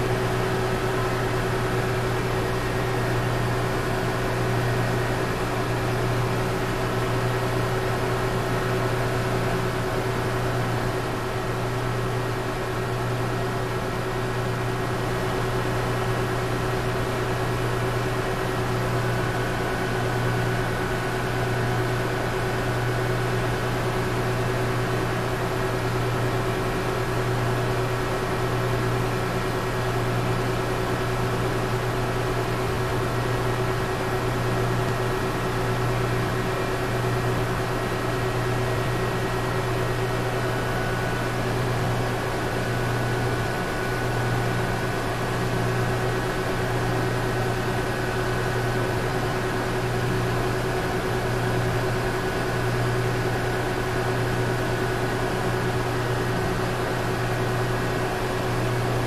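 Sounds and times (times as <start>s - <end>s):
water pumps humming: 0.0s - 59.0s.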